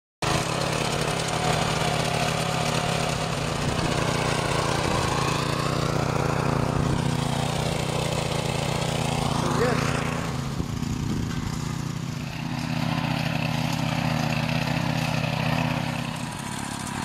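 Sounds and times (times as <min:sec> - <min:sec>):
small tiller engine running: 0:00.2 - 0:17.0.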